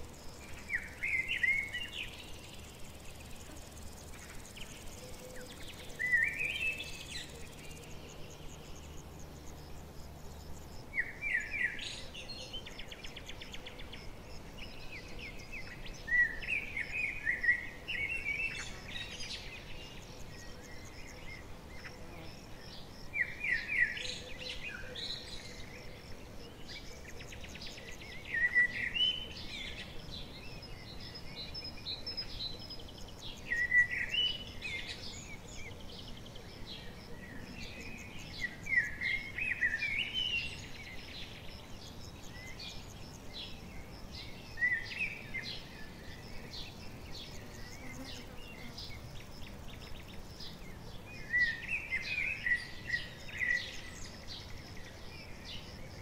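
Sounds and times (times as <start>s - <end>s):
low background hiss: 0.0s - 56.0s
small songbird singing: 0.0s - 56.0s.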